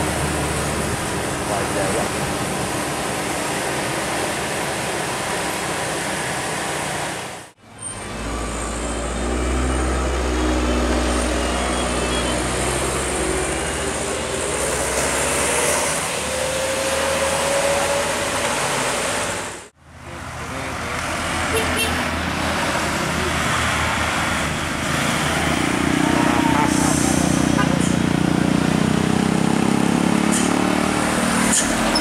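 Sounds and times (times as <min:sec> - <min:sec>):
coach engine and tyres: 0:00.0 - 0:32.0
minibus engine droning: 0:00.0 - 0:32.0.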